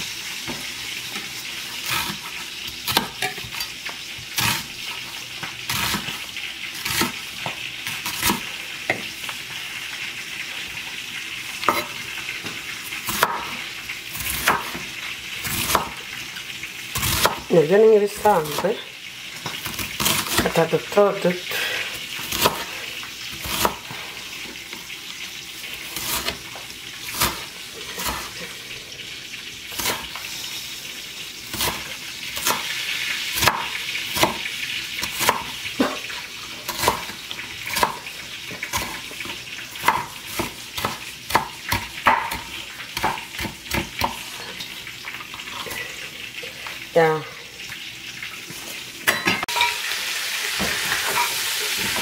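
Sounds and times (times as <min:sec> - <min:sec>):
meat sizzling in a pan: 0:00.0 - 0:52.0.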